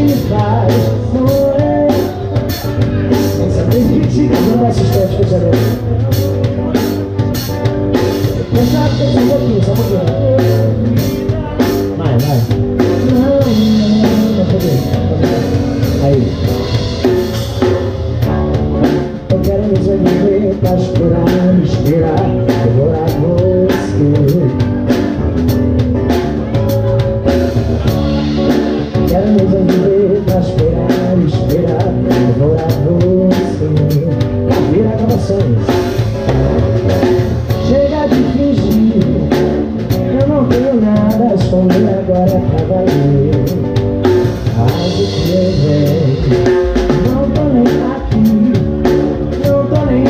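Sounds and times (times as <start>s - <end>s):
man singing: 0.0s - 25.5s, 26.1s - 50.0s
drum kit with cymbal hits: 0.0s - 50.0s
electric guitar: 0.0s - 50.0s.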